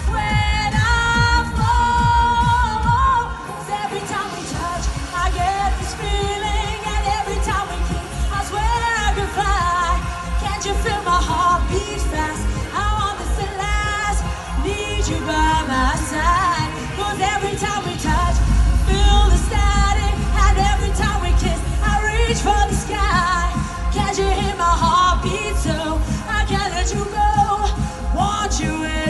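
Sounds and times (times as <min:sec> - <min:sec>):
person singing: 0:00.0 - 0:29.0.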